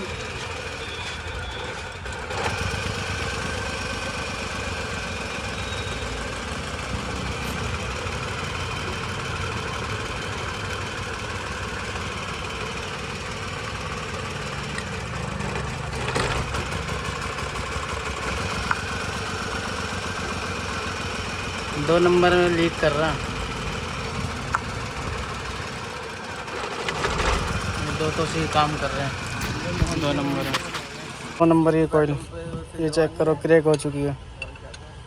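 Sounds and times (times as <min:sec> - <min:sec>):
car engine idling with misfire: 0:00.0 - 0:34.1.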